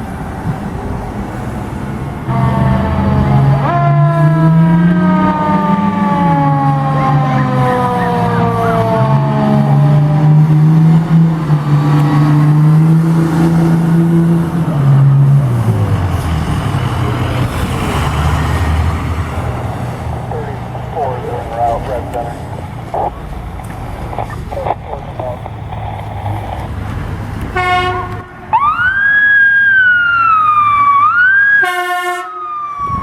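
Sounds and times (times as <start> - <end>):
truck engine pulling hard: 0.0 - 31.3
fire truck siren winding down: 2.2 - 23.4, 27.6 - 33.0.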